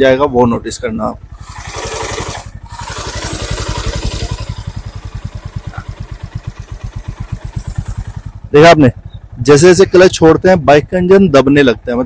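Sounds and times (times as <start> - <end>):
motorcycle engine labouring: 0.0 - 12.0.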